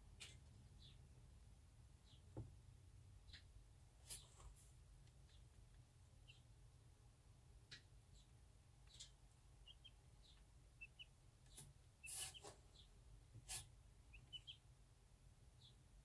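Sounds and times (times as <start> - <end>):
chicks peeping: 0.1 - 1.1, 3.1 - 14.8, 15.4 - 15.9.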